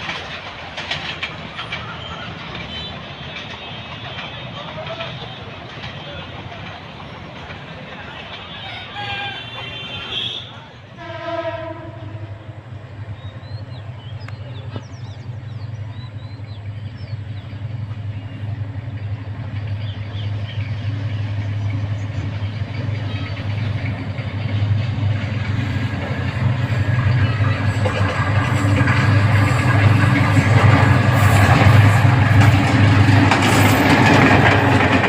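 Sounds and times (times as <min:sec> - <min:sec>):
diesel train engine drone: 0:00.0 - 0:35.0.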